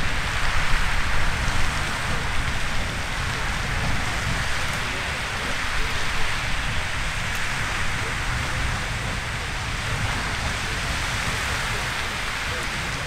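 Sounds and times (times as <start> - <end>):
geyser water jet hissing: 0.0 - 13.0.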